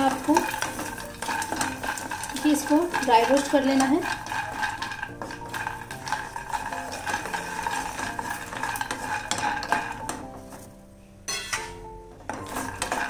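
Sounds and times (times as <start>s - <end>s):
peanuts rattling in a pan: 0.0s - 10.6s, 12.3s - 13.0s
spatula scraping a pan: 0.0s - 13.0s.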